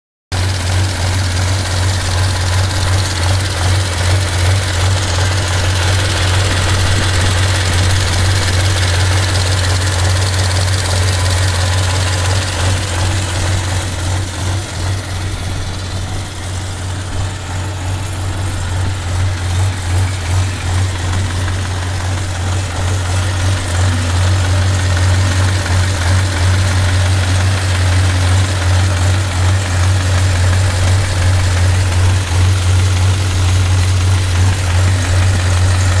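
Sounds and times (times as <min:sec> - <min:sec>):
diesel tractor engine idling: 0:00.3 - 0:36.0.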